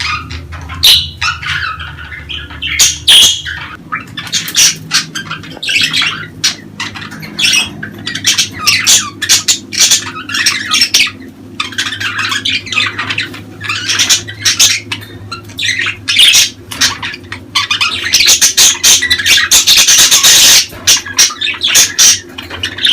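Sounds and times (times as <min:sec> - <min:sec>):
budgerigars chattering and squawking: 0:00.0 - 0:22.9
steady low hum: 0:00.0 - 0:22.9.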